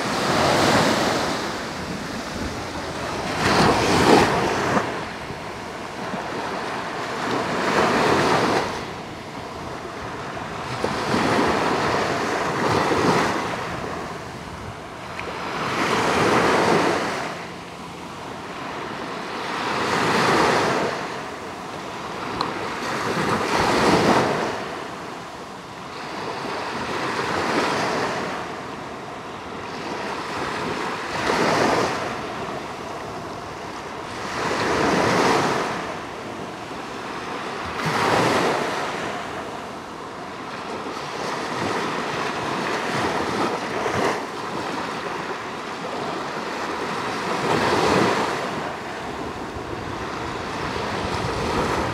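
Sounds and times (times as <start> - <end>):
small waves breaking on sandy shore: 0.0 - 51.9.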